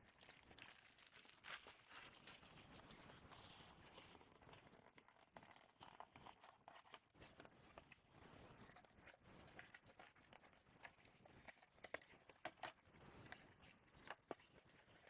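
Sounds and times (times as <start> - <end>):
card packs crinkling: 0.0 - 15.0.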